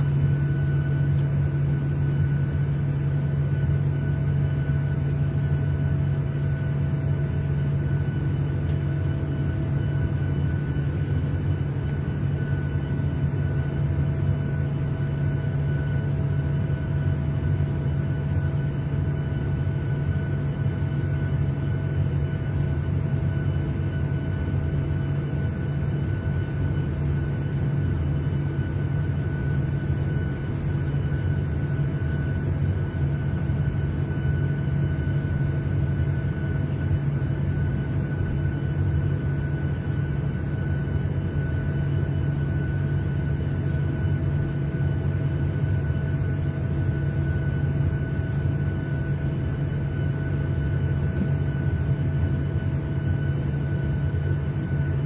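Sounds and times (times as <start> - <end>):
airliner cabin drone: 0.0 - 55.0
faint steady hums: 0.0 - 55.0.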